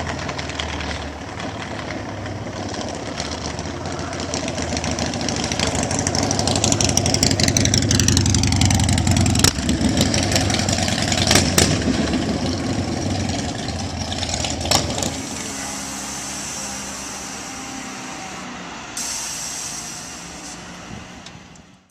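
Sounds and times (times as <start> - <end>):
motorcycle engine revving: 0.0 - 21.4.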